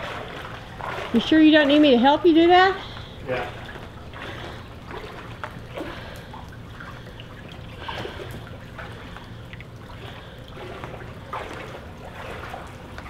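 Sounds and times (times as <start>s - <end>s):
wading through splashing water: 0.0s - 13.0s.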